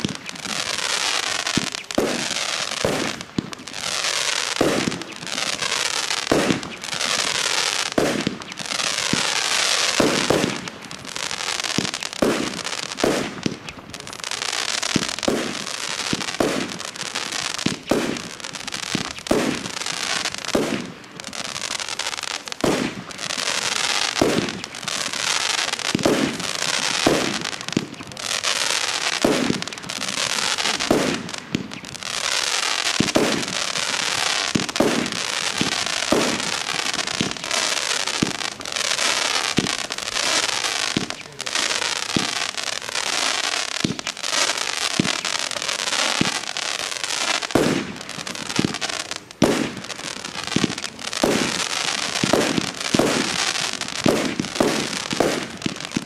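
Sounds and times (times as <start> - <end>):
firework shots thumping: 0.0 - 45.4, 47.2 - 56.0
firework hiss: 0.0 - 56.0.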